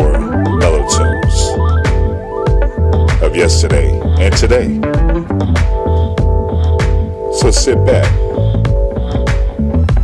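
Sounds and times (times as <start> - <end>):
bass-heavy synth music with beat: 0.0 - 10.0.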